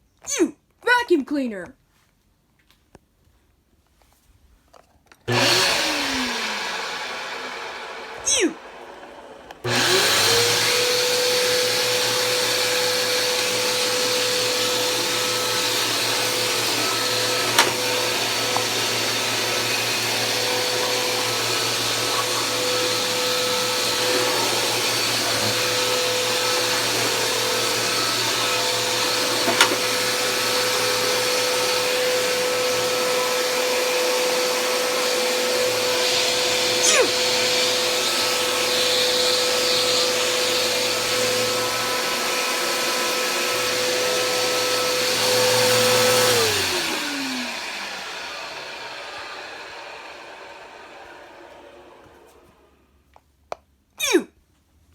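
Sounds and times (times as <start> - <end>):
vacuum cleaner motor whine: 5.3 - 52.9.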